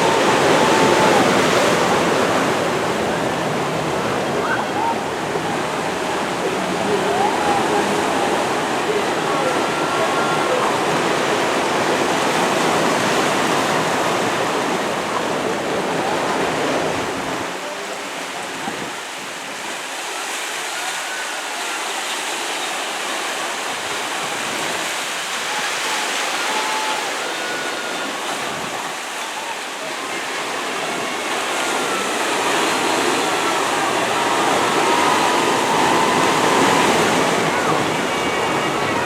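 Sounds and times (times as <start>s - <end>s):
faint distant voices: 0.0s - 39.0s
open water rushing: 0.0s - 39.0s
wind: 0.0s - 39.0s.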